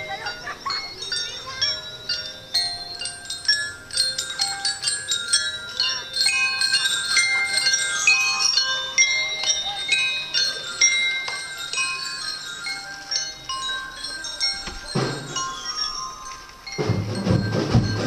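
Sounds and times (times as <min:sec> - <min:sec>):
metallic chime tones: 0:00.0 - 0:18.0.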